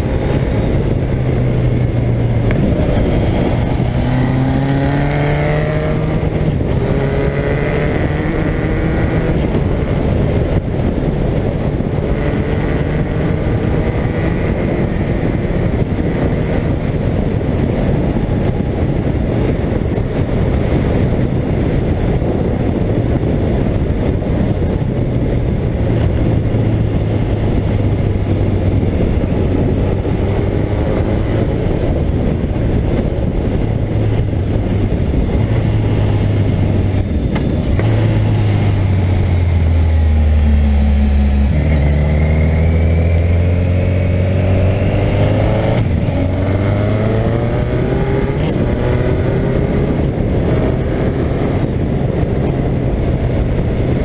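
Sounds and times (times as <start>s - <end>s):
motorcycle engine cruising: 0.0s - 54.0s
wind rushing over microphone: 0.0s - 54.0s.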